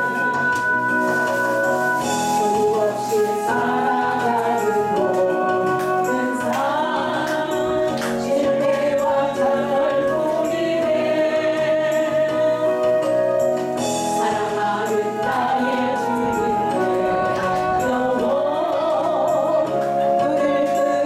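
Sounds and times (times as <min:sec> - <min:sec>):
backing track music: 0:00.0 - 0:21.0
woman singing into microphone: 0:02.1 - 0:21.0.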